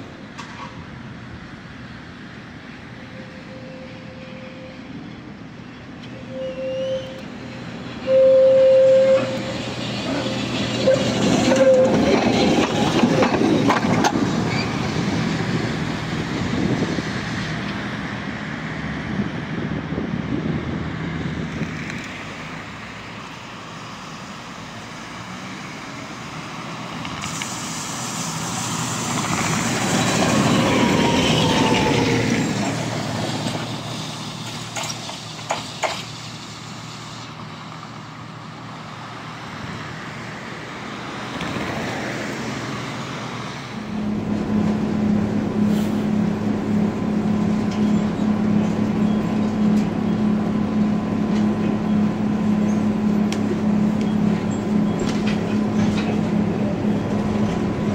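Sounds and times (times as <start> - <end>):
tram running: 0.0 - 57.9.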